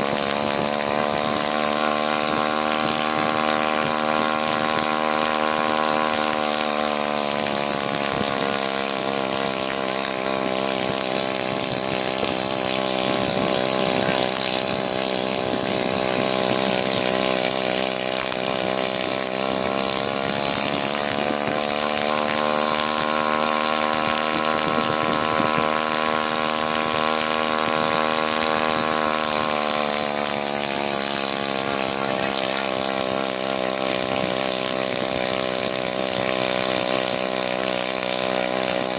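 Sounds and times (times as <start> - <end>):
helicopter engine running: 0.0 - 38.9.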